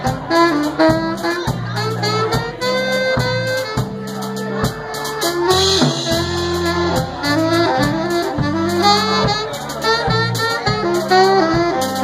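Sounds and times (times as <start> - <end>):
bass line: 0.0 - 12.0
light drum strokes: 0.0 - 12.0
saxophone melody: 0.0 - 12.0.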